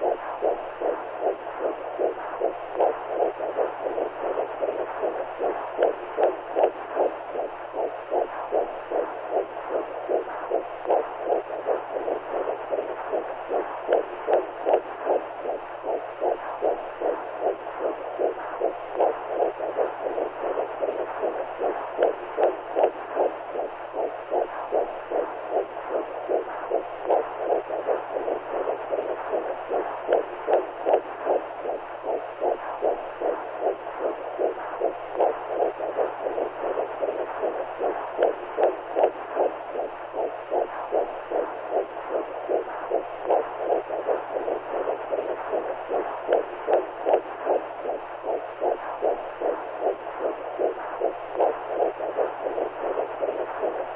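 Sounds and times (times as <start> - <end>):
heartbeat pulsing: 0.0 - 53.9
muffled whooshing womb sound: 0.0 - 53.9.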